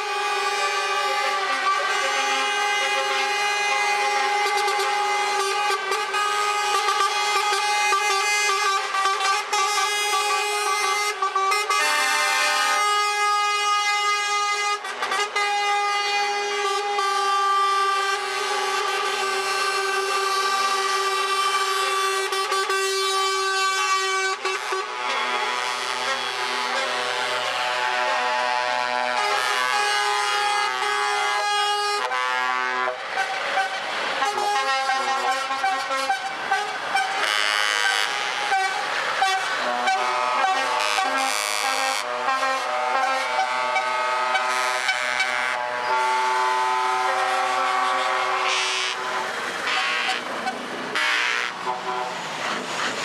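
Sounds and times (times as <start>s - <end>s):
truck air horns blasting: 0.0s - 53.0s.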